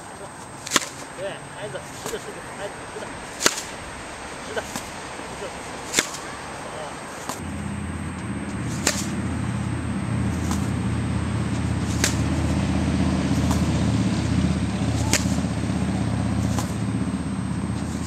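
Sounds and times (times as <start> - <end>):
low engine hum: 0.0 - 18.0
racket hitting tennis balls: 0.0 - 18.0.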